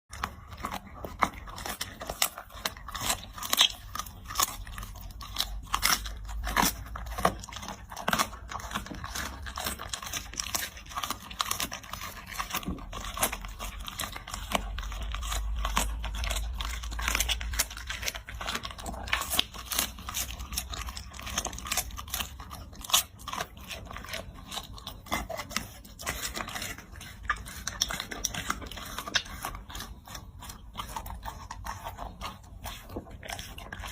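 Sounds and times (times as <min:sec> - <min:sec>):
dog chewing and crunching food: 0:00.0 - 0:33.9.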